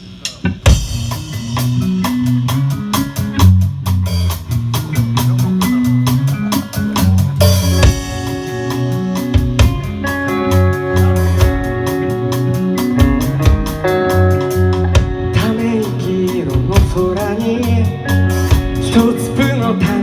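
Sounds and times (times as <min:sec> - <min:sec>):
band playing instrumental: 0:00.0 - 0:20.0
drum kit beat: 0:00.0 - 0:20.0
bass line: 0:00.7 - 0:20.0.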